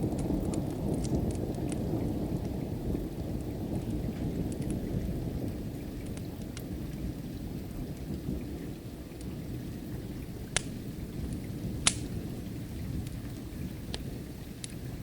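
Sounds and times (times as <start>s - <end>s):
distant thunder: 0.0s - 14.3s
rain: 0.0s - 15.0s
wood fire crackling: 0.0s - 15.0s.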